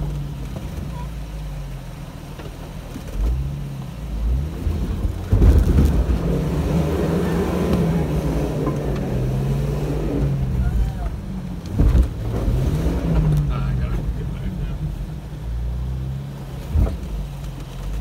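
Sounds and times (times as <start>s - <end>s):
car engine running at low speed: 0.0s - 18.0s.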